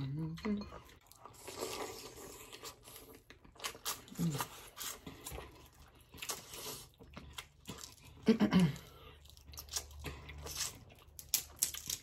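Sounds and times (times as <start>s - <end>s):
wet chewing sounds: 0.7s - 12.0s.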